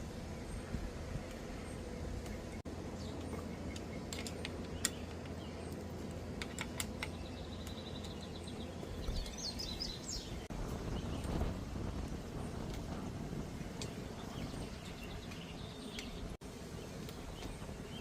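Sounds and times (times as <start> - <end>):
bird chirping: 0.0 - 11.5, 13.6 - 18.0.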